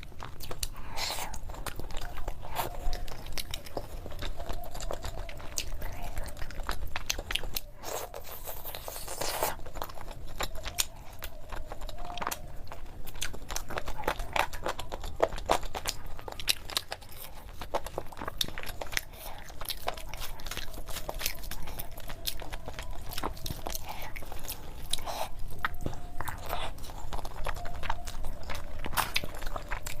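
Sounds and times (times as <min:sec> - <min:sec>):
person chewing and crunching food: 0:00.0 - 0:30.0.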